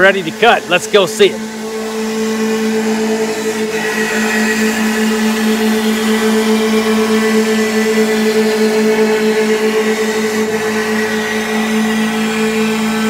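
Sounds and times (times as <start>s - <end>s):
cutter chipping wood: 0.0s - 13.0s
milling machine spindle hum: 0.0s - 13.0s.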